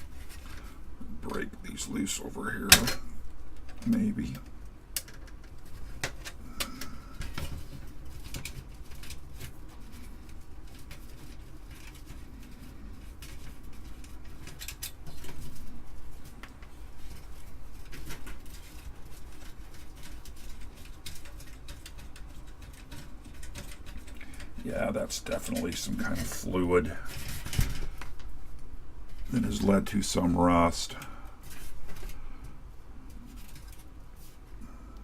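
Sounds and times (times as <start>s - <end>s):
small clicks and metallic scraping: 2.6s - 29.5s, 30.9s - 35.0s.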